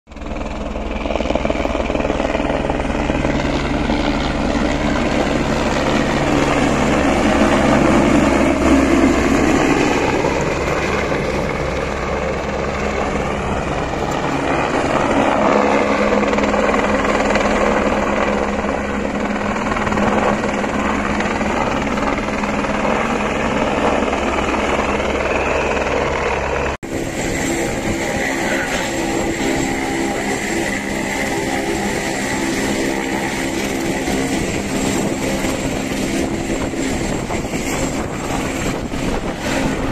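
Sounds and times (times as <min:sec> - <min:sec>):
helicopter rotor and engine: 0:00.1 - 0:39.9.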